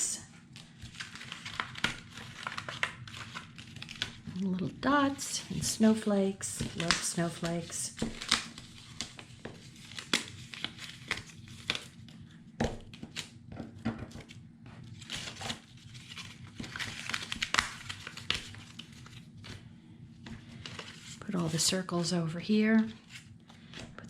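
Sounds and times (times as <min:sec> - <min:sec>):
paper rustling and crinkling: 0:00.6 - 0:04.6, 0:05.4 - 0:21.7.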